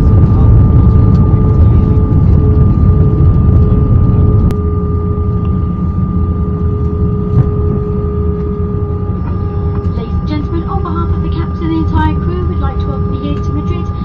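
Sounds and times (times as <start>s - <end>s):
jet cabin rumble: 0.0s - 14.0s
steady engine whine: 0.0s - 14.0s.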